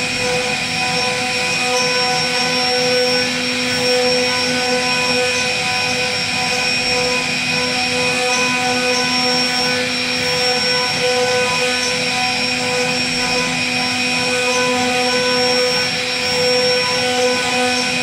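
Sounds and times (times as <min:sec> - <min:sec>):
router spindle whine: 0:00.0 - 0:18.0.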